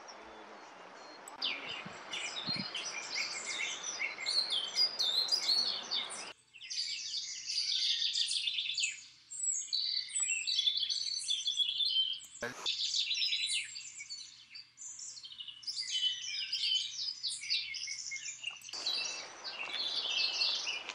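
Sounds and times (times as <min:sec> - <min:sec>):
songbirds singing: 0:00.0 - 0:20.9.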